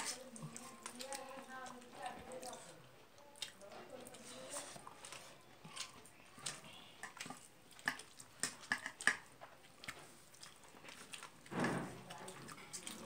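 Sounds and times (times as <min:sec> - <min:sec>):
eating rice by hand: 0:00.0 - 0:13.0.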